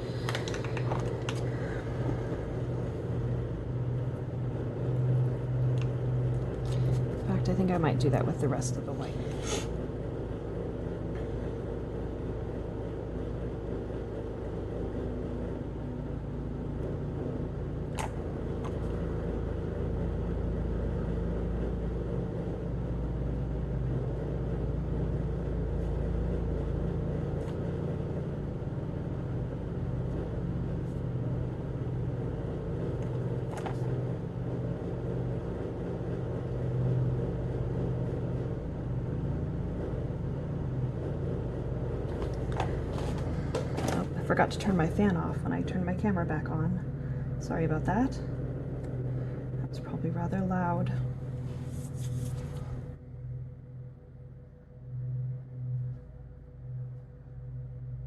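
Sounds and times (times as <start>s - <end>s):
electric fan humming: 0.0s - 58.0s.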